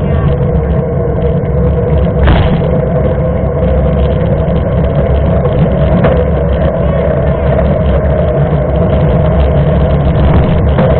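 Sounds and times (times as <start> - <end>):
bike tyres rolling on asphalt: 0.0 - 10.9
wind buffeting microphone: 0.0 - 10.9.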